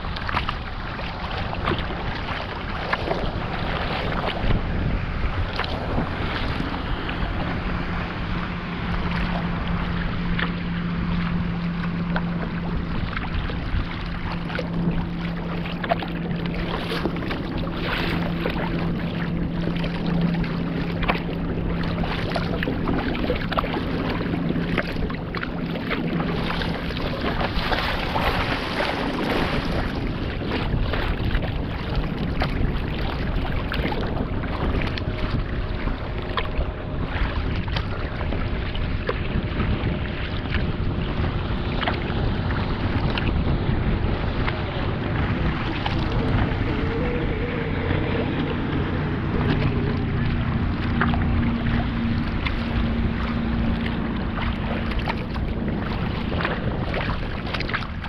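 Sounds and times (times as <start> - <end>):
water splashing against kayak hull: 0.0 - 58.0
wind buffeting microphone: 0.0 - 58.0
steady low hum: 0.7 - 58.0.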